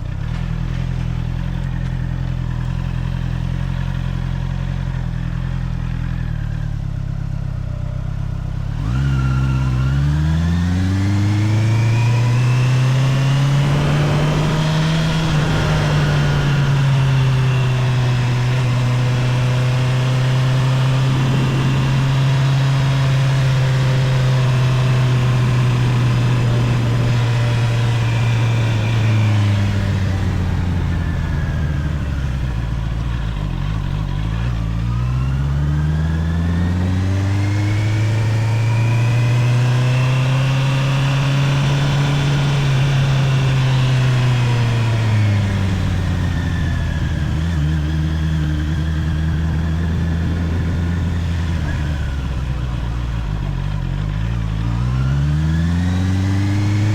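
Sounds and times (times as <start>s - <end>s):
motorcycle engine revving and cruising: 0.0s - 56.9s.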